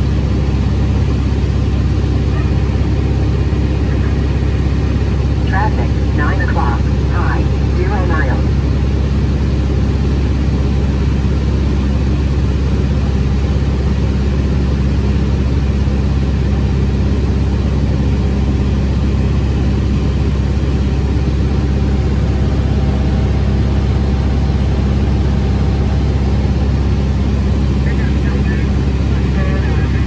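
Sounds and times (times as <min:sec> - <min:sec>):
plane engine humming: 0:00.0 - 0:30.0.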